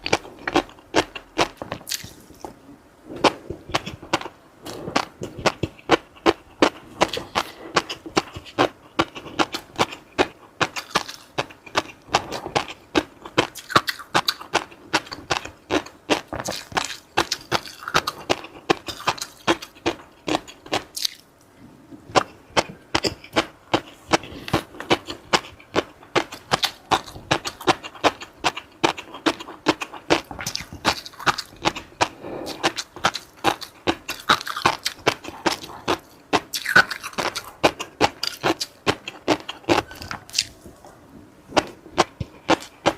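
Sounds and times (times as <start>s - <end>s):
chewing and crunching: 0.0s - 2.5s, 3.2s - 21.2s, 22.1s - 42.9s.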